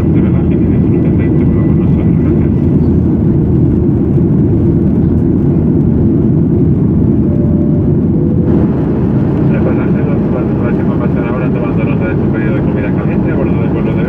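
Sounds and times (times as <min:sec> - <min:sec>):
airplane cabin roar: 0:00.0 - 0:14.0
jet engines droning: 0:00.0 - 0:14.0.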